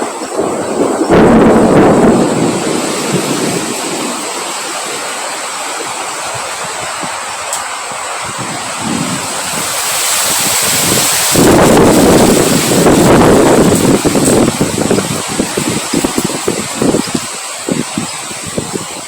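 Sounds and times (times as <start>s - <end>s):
rain: 0.0s - 19.0s
wind: 0.0s - 19.0s.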